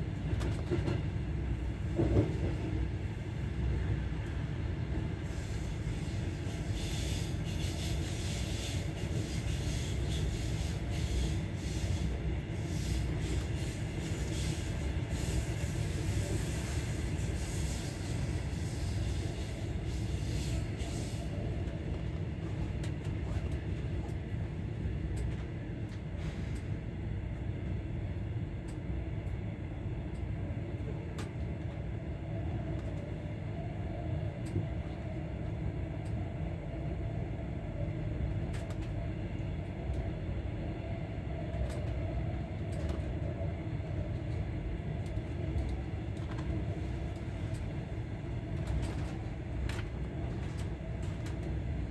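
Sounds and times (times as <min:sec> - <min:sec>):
train rumbling: 0:00.0 - 0:51.9.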